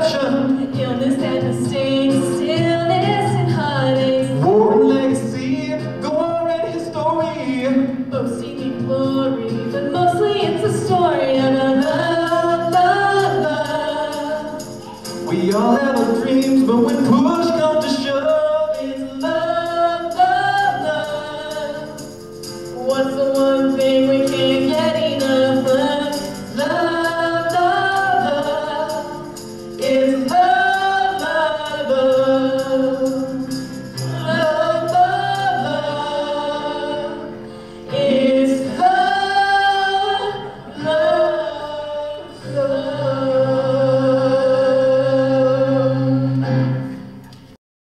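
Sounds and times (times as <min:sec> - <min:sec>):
people singing: 0:00.0 - 0:47.0
band accompaniment: 0:00.0 - 0:47.6.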